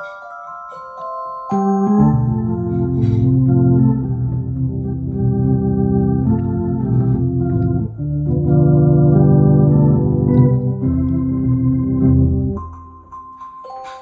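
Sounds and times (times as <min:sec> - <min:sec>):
electronic organ chords: 0:01.5 - 0:12.8.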